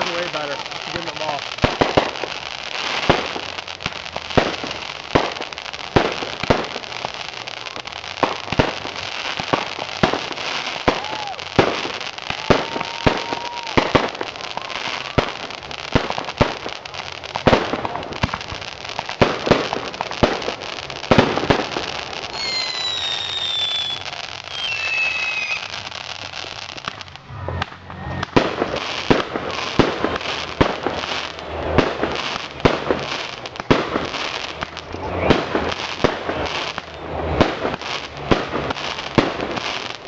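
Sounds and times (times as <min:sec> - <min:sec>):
fireworks bangs and crackles: 0:00.0 - 0:40.0
fireworks whistling: 0:00.0 - 0:40.0.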